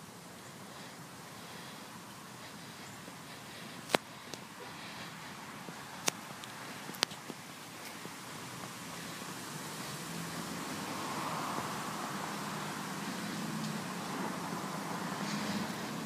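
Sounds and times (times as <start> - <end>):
engine humming: 0.0 - 16.0
rushing noise: 0.0 - 16.0.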